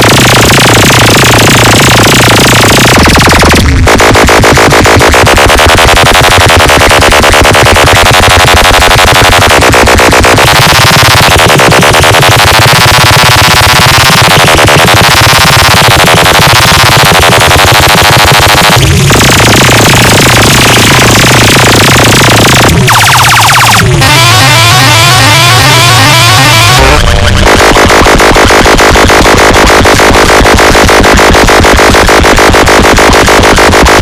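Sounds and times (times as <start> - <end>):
distorted electronic music: 0.0 - 34.0.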